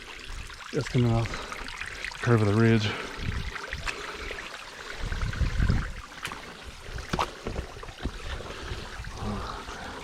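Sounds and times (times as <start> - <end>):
waterfall and creek water running: 0.0 - 10.0.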